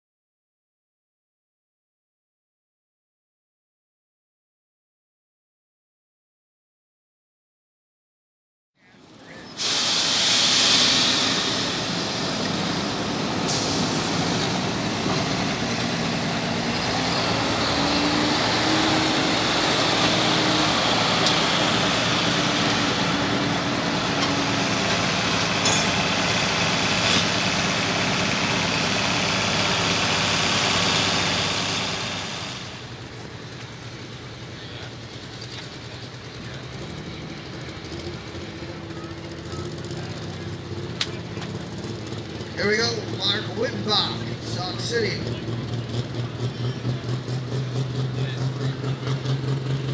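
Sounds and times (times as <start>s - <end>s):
diesel pulling tractor at full throttle: 8.8s - 49.9s.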